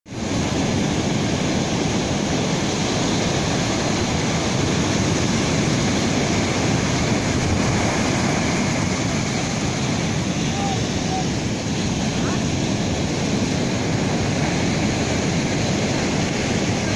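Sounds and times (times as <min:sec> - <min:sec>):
ocean surf breaking waves: 0:00.1 - 0:16.9.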